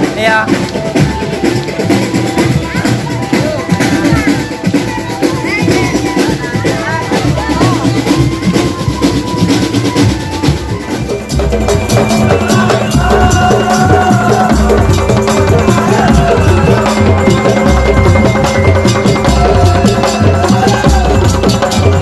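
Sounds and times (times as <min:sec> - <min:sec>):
marching drum band playing: 0:00.0 - 0:22.0
pitched notes: 0:00.0 - 0:22.0.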